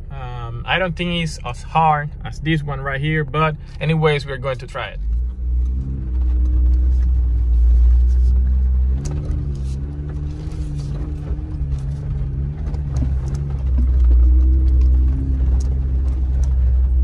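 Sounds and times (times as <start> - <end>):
engine deep rumble: 0.0 - 17.0.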